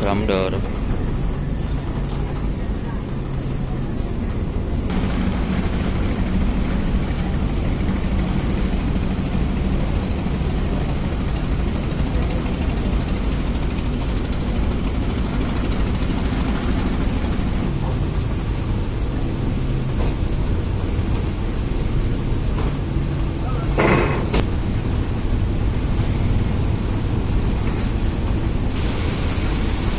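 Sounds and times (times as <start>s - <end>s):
ferry diesel engines humming: 0.0s - 29.9s.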